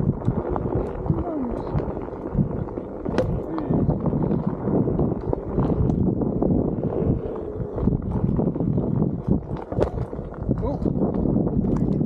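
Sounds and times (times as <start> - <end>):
electric hub motor whining: 0.0 - 12.0
tyre rumble on dirt: 0.0 - 12.0
wind buffeting microphone: 0.0 - 12.0.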